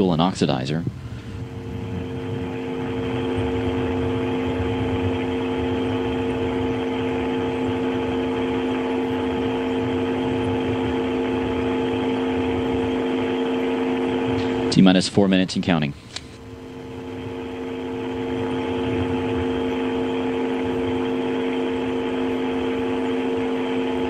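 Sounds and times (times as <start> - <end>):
machinery hum with held tones: 0.0 - 24.0.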